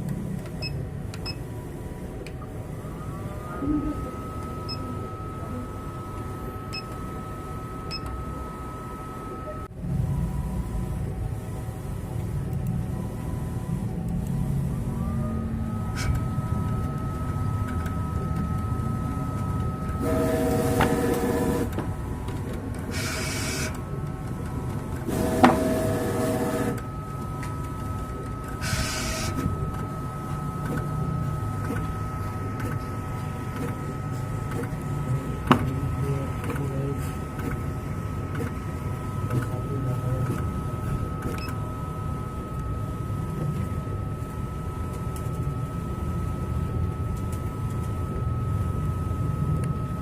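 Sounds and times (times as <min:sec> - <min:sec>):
cutting plotter motors whining: 0:00.0 - 0:50.0
steady mechanical hum: 0:00.0 - 0:50.0.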